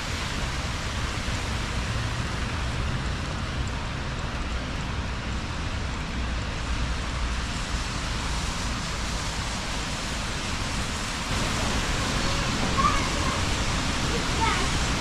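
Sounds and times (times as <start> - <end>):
steady rain: 0.0 - 15.0
traffic on wet streets: 0.0 - 15.0.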